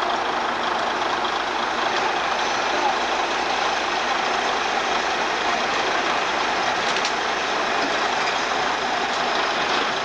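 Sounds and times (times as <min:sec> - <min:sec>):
heavy diesel equipment droning: 0:00.0 - 0:10.0.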